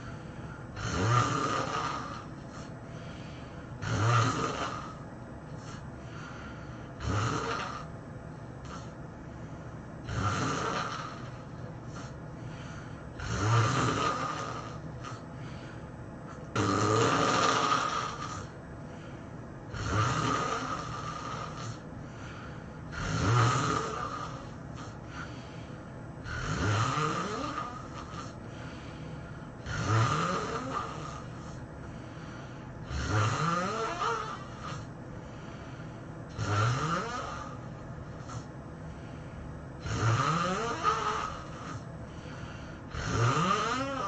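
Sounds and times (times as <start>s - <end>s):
person snoring loudly: 0.7s - 5.0s, 5.6s - 7.9s, 10.0s - 15.8s, 16.4s - 18.6s, 19.7s - 25.6s, 26.2s - 28.9s, 29.6s - 35.4s, 36.3s - 38.5s, 39.8s - 44.0s.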